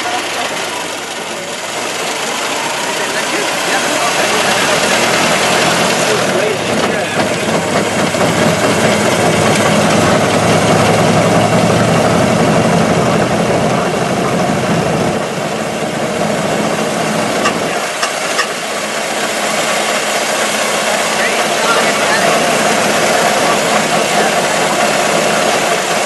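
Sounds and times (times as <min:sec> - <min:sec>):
car engine running: 0:00.0 - 0:26.0
wind and road noise: 0:00.0 - 0:26.0.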